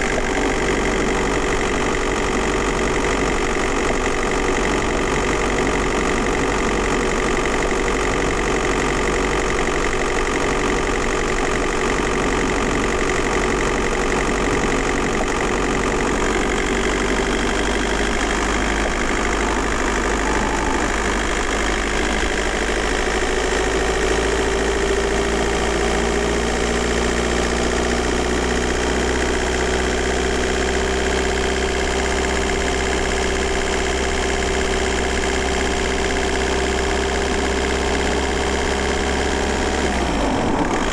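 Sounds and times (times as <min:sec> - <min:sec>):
diesel car engine running: 0:00.0 - 0:40.9.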